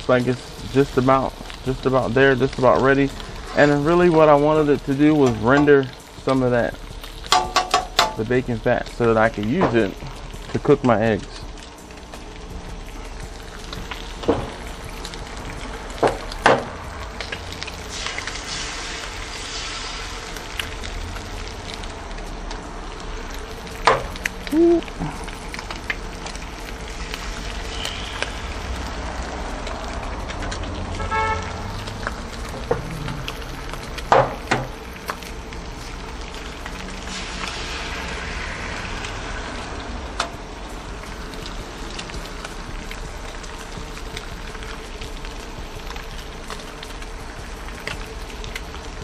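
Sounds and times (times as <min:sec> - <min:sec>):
bacon sizzling on a griddle: 0:00.0 - 0:49.0
eggs frying: 0:00.0 - 0:49.0.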